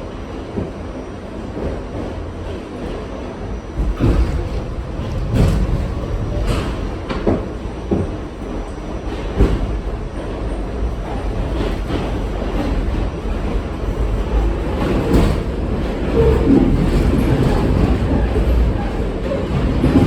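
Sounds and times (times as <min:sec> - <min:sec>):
subway car rumbling on track: 0:00.0 - 0:20.0
wheels clunking over rail joints: 0:03.8 - 0:20.0.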